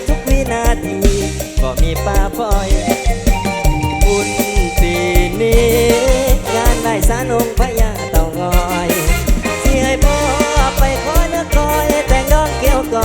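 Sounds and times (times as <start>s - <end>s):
bending melodic lead: 0.0s - 13.0s
thick bass line: 0.0s - 13.0s
heavy kick drum: 0.1s - 13.0s.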